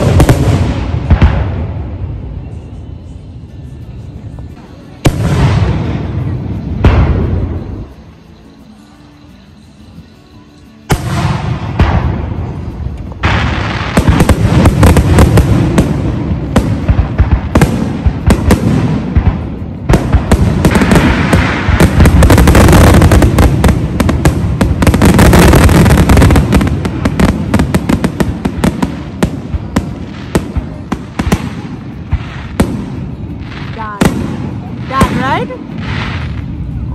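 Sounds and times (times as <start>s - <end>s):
fireworks booming and crackling: 0.0s - 2.7s, 4.4s - 8.0s, 10.9s - 36.9s.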